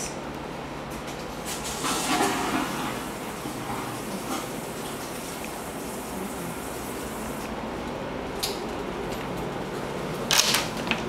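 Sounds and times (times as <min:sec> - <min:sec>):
ventilation hiss: 0:00.0 - 0:11.0.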